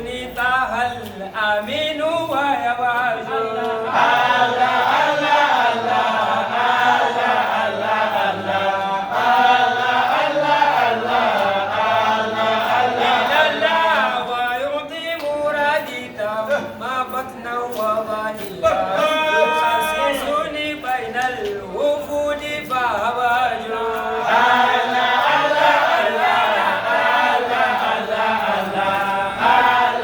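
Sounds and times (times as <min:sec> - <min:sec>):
person chanting unaccompanied: 0:00.0 - 0:30.0.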